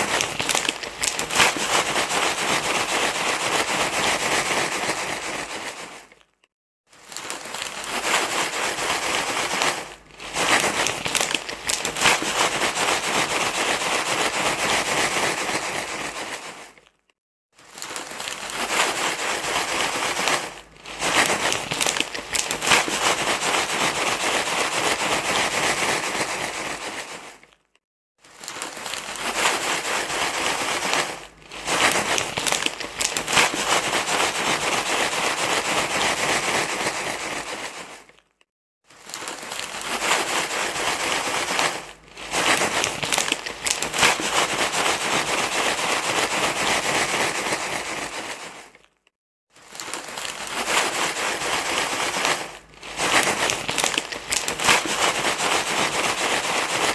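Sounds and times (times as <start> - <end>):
crinkly material rustling: 0.0 - 56.9.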